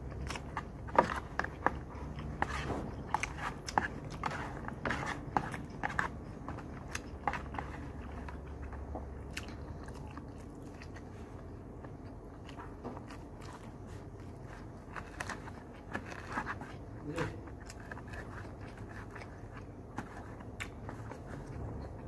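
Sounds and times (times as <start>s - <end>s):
low steady hum: 0.0s - 22.0s
person chewing crunchy food: 0.0s - 22.0s.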